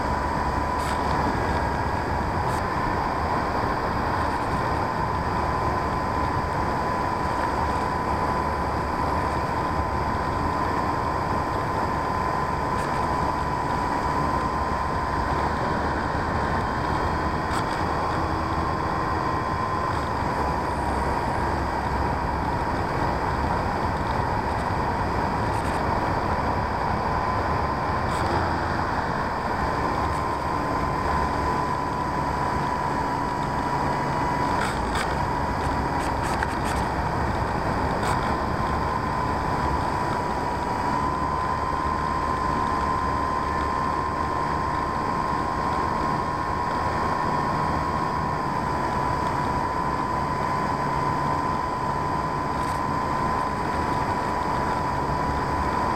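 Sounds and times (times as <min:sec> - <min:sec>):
model plane motor whine: 0:00.0 - 0:55.9.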